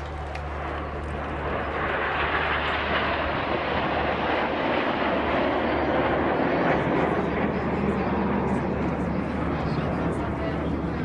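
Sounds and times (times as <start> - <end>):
jets flying past: 0.0 - 11.0.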